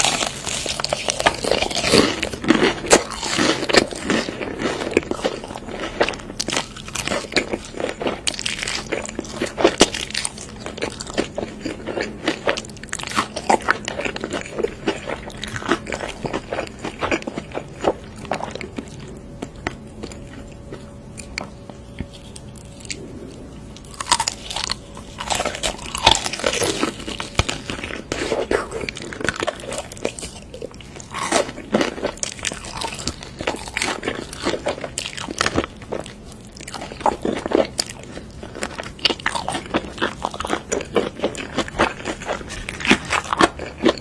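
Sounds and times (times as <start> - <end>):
chewing crunchy food: 0.0 - 44.0.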